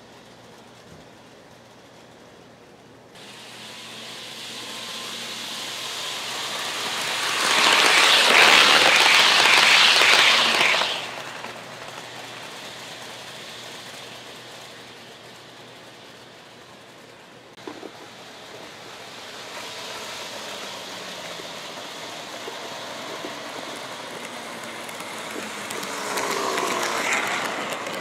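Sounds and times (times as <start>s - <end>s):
model train wheels on track: 0.0s - 28.0s.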